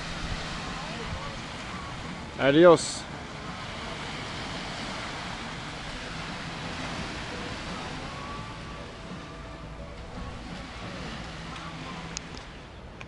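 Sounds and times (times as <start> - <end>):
gentle surf on beach: 0.0 - 13.0.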